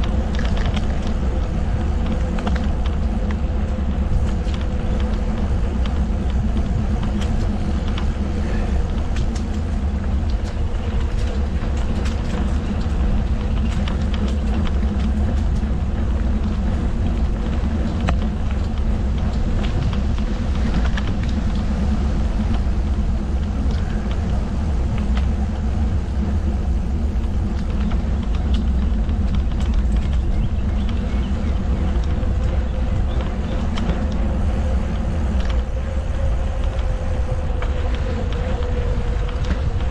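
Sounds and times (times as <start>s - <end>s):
light clicks and rattles: 0.0s - 39.9s
mountain bike rolling on trail: 0.0s - 39.9s
wind on microphone: 0.0s - 39.9s.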